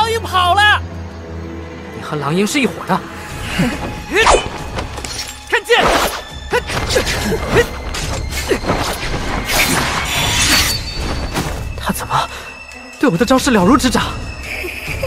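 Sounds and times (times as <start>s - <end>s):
dramatic background music: 0.0s - 15.0s.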